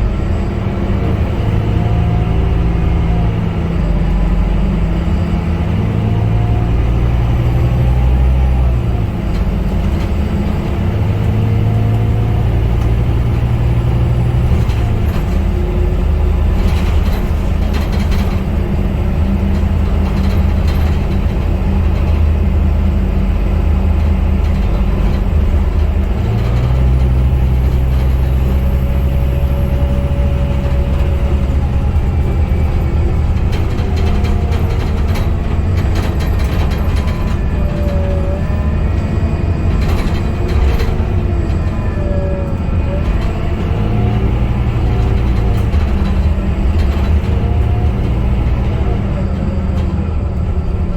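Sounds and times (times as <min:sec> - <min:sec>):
bus body rattles and clicks: 0:00.0 - 0:50.9
bus diesel engine running: 0:00.0 - 0:50.9.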